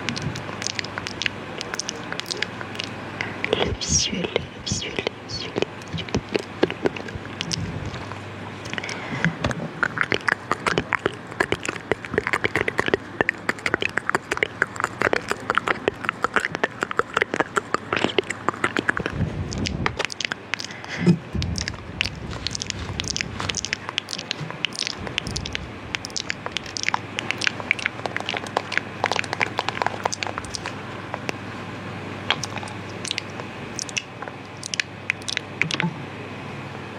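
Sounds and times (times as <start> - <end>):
wet mouth clicks and smacks: 0.0 - 31.4, 32.3 - 35.9.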